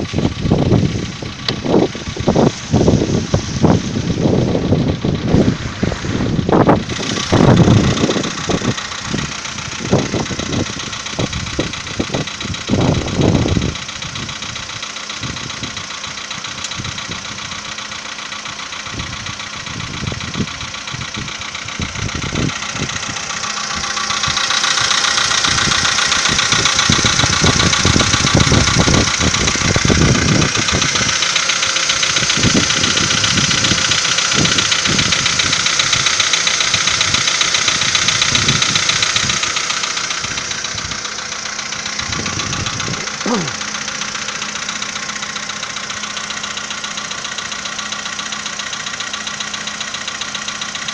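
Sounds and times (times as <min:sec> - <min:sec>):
car engine idling: 0:00.0 - 0:50.9
engine knocking thumps: 0:00.0 - 0:50.9.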